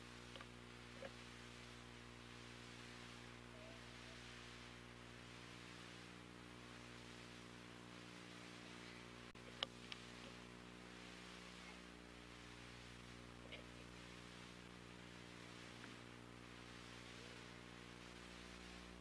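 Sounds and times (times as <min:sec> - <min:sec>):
videotape hum and hiss: 0:00.0 - 0:19.0.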